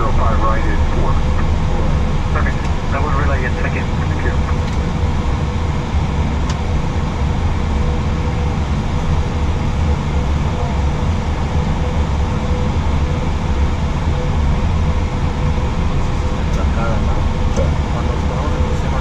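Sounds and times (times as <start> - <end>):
cockpit low rumble: 0.0 - 19.0
faint steady hum: 0.0 - 19.0.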